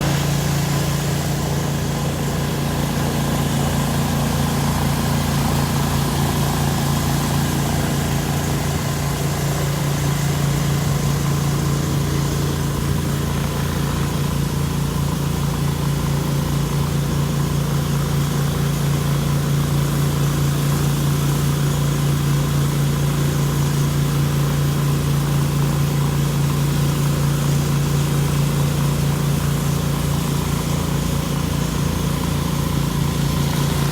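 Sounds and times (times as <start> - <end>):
pressure washer engine running: 0.0 - 33.9.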